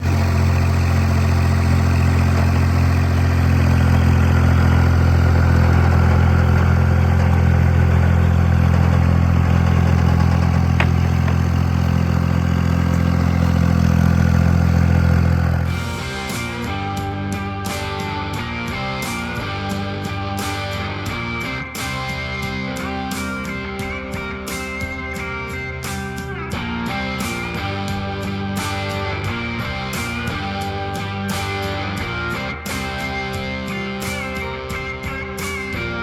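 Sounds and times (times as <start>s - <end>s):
engine idling: 0.0s - 36.0s
guitar music: 0.0s - 36.0s.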